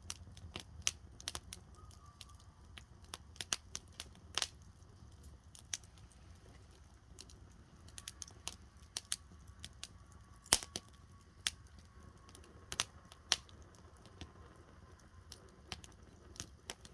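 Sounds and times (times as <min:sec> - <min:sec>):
campfire crackling and popping: 0:00.0 - 0:16.9.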